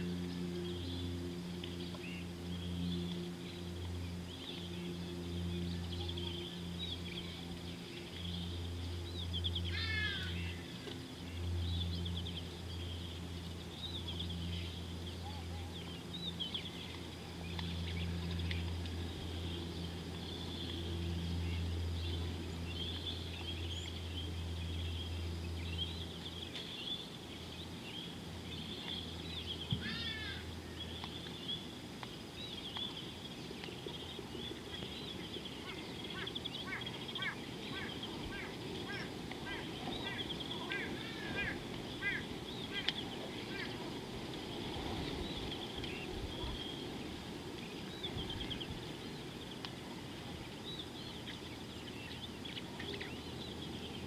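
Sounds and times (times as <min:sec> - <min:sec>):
birds chirping and trilling: 0:00.0 - 0:54.0
low hum: 0:00.0 - 0:54.0.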